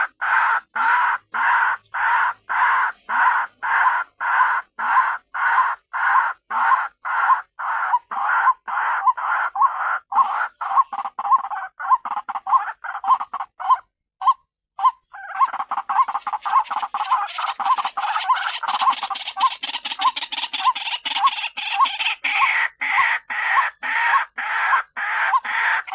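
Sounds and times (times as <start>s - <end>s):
waterhen croaking calls: 0.0s - 25.9s.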